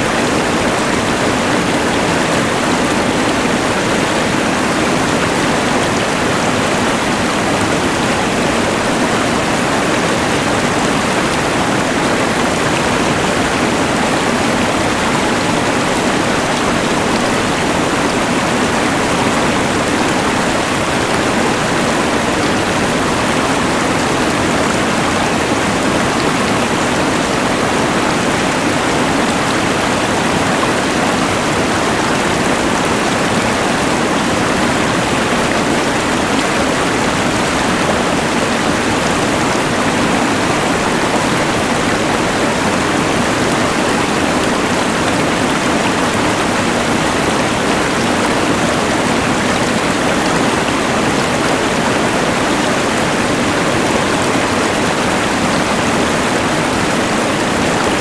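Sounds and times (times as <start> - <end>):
rushing river: 0.0 - 58.0.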